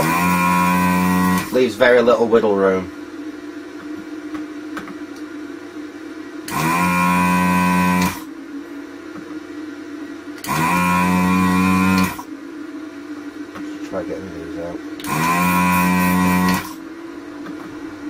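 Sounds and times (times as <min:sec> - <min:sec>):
desoldering vacuum pump humming: 0:00.0 - 0:18.0
low steady hum: 0:00.0 - 0:18.0.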